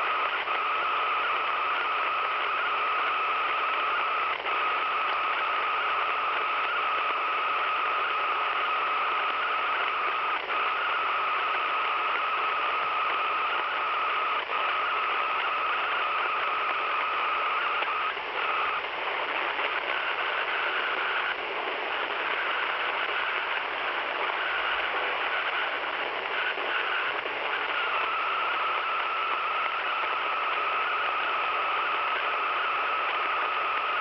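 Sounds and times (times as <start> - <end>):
radio hissing signal: 0.0 - 34.0.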